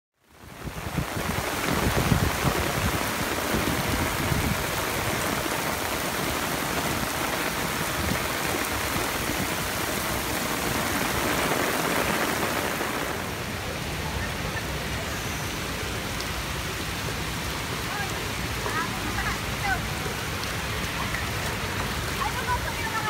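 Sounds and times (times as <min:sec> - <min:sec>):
torrential rain on paving: 0:00.2 - 0:23.0.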